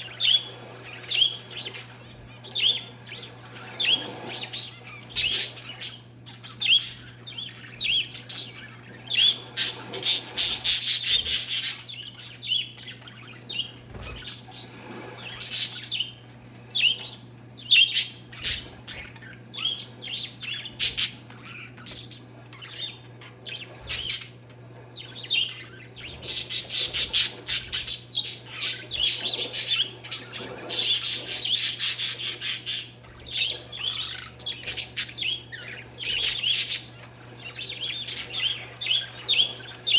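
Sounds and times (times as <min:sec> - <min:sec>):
parakeets and finches chirping: 0:00.0 - 0:39.9.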